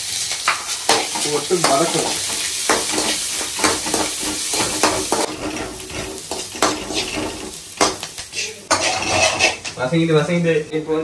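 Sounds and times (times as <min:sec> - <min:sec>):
onions sizzling in hot oil: 0:00.0 - 0:11.0
spoon scraping and knocking pan: 0:00.4 - 0:09.8.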